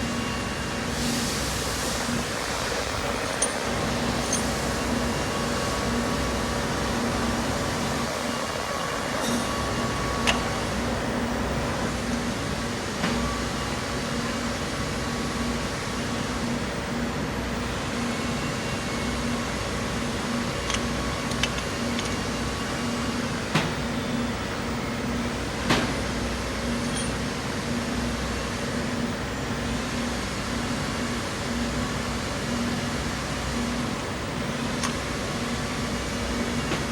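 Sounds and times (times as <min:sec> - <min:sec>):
mechanical hum: 0:00.0 - 0:36.9.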